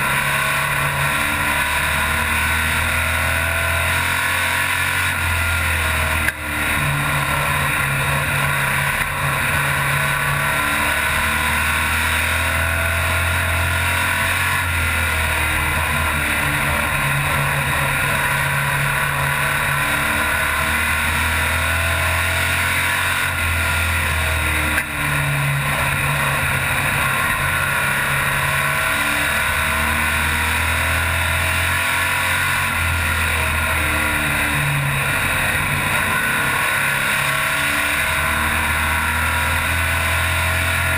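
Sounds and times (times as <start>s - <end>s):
race car engine: 0.0s - 40.9s
wind and road noise: 0.0s - 40.9s.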